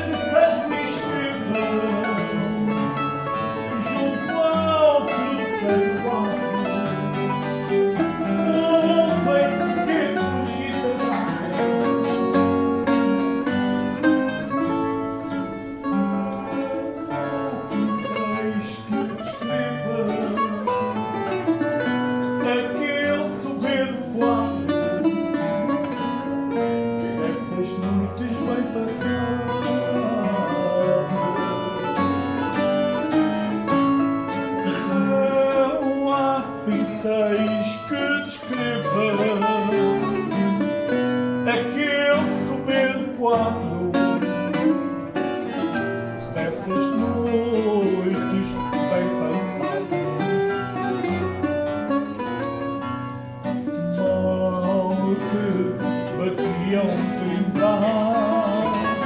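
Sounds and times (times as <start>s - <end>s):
man singing: 0.0s - 59.0s
plucked guitars: 0.0s - 59.0s.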